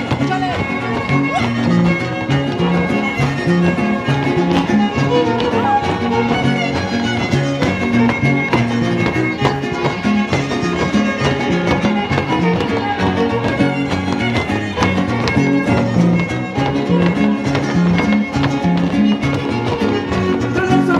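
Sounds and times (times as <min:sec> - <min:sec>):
strummed guitars: 0:00.0 - 0:20.9
violin playing: 0:00.0 - 0:20.9.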